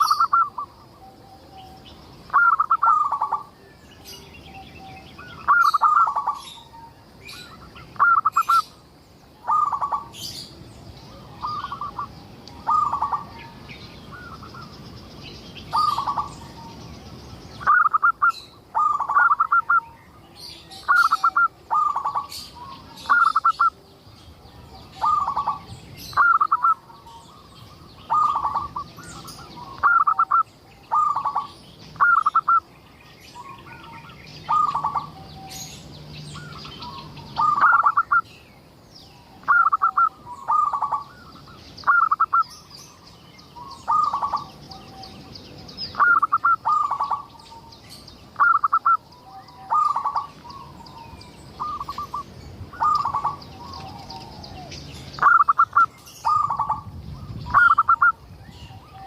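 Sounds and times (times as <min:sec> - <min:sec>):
dove cooing: 0:00.0 - 0:03.5, 0:04.8 - 0:08.8, 0:09.4 - 0:14.7, 0:15.7 - 0:16.7, 0:17.6 - 0:20.0, 0:20.7 - 0:23.9, 0:24.6 - 0:32.7, 0:33.4 - 0:35.7, 0:36.4 - 0:38.2, 0:39.4 - 0:42.5, 0:43.6 - 0:45.2, 0:45.9 - 0:47.7, 0:48.4 - 0:59.0
small birds chirping: 0:00.0 - 0:59.0.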